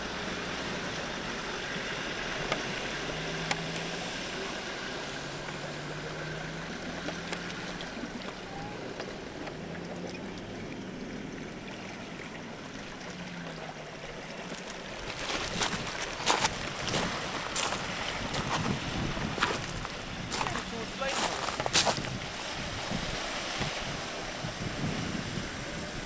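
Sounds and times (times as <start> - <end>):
faint low engine note: 0.0 - 26.0
water rushing and swishing: 0.0 - 26.0.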